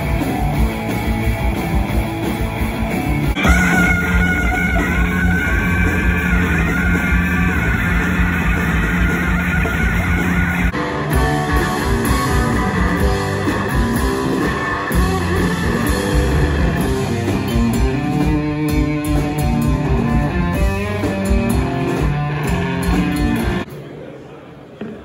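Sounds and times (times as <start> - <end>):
drum kits beat: 0.0 - 23.6
electric guitar: 0.0 - 23.7.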